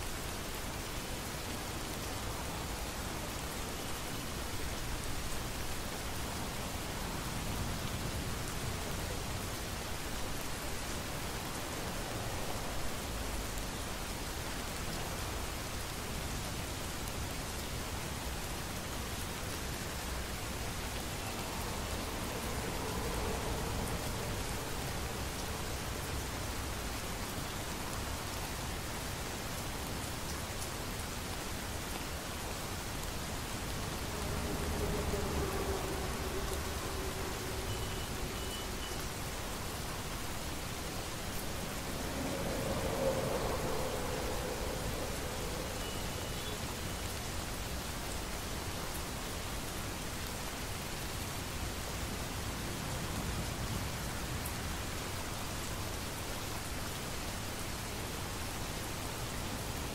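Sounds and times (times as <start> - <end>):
heavy rain pattering: 0.1 - 59.9.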